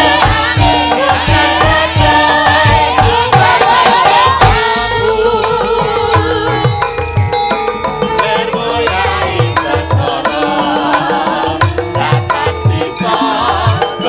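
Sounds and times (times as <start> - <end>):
women and men singing: 0.0 - 7.1, 8.0 - 14.0
drum beats: 0.0 - 14.0
gamelan music through a pa: 0.0 - 14.0.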